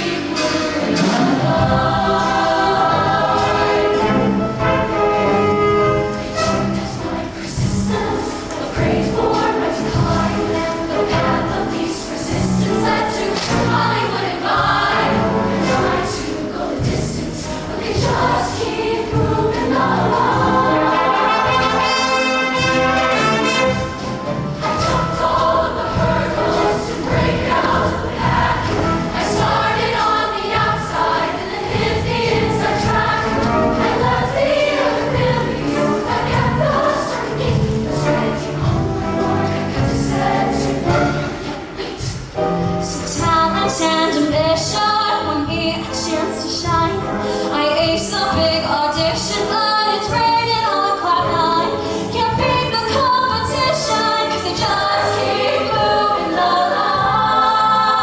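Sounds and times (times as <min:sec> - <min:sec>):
choir singing in harmony: 0:00.0 - 0:58.0
live band playing: 0:03.1 - 0:57.3.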